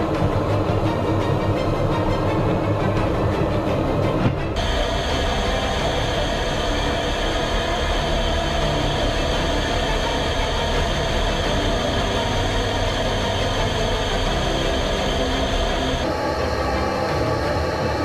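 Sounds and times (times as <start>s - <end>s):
steady whining tones: 0.0s - 18.0s
jet engine and rushing air: 2.2s - 18.0s.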